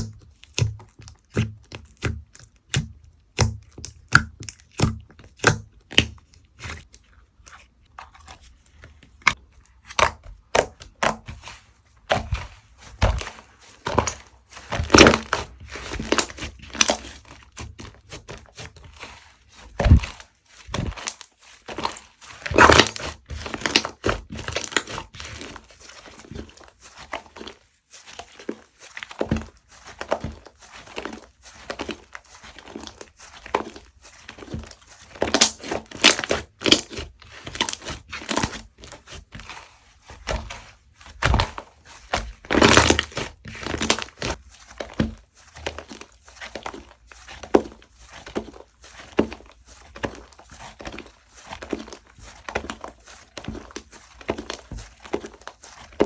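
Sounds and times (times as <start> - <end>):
slime squished by hand: 0.0 - 56.0.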